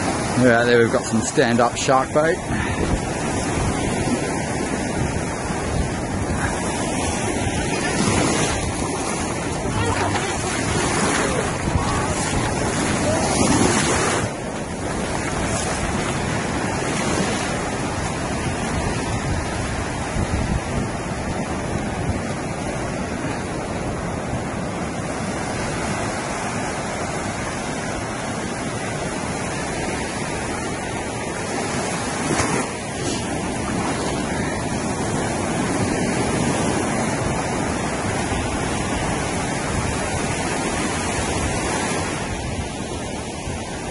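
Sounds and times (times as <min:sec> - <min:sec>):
surf washing on beach: 0:00.0 - 0:43.9
wind rumbling on microphone: 0:00.0 - 0:43.9.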